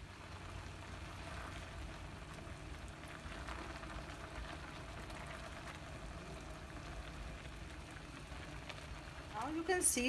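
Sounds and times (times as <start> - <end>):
pot simmering and bubbling: 0.0 - 10.0.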